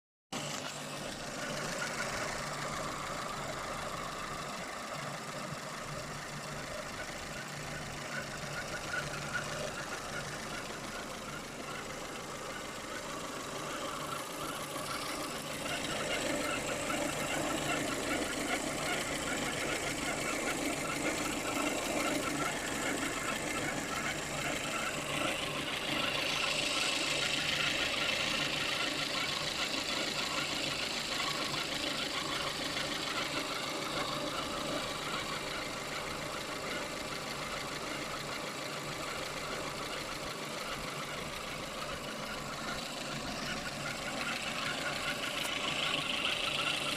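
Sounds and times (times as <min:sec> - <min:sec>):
car engine running: 0:00.4 - 0:46.9.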